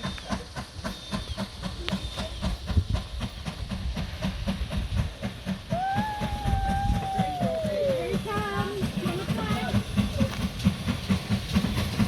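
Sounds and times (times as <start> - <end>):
steam train knocking rhythm: 0.0 - 12.0.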